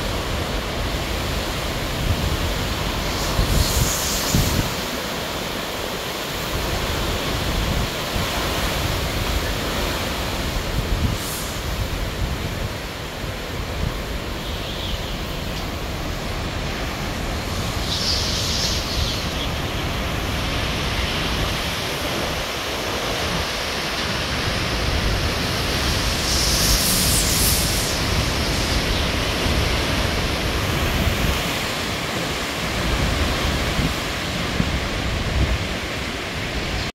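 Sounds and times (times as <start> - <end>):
wind buffeting microphone: 0.0 - 36.9
wind rushing through trees: 0.0 - 36.9.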